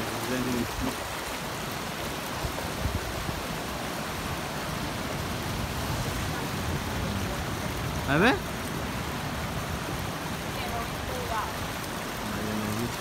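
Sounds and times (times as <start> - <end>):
ocean surf on rocky shore: 0.0 - 13.0.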